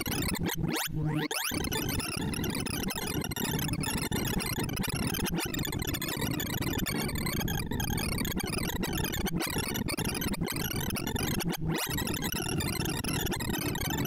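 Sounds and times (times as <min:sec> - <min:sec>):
synthesized blips at many pitches: 0:00.0 - 0:14.0.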